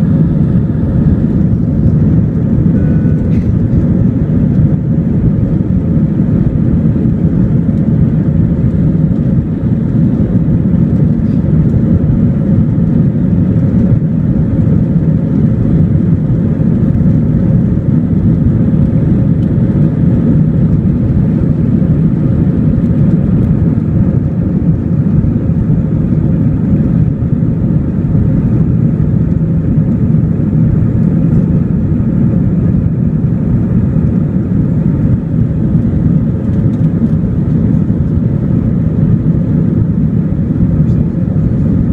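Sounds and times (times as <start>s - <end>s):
faint steady hum: 0.0s - 41.9s
jet engine drone: 0.0s - 41.9s.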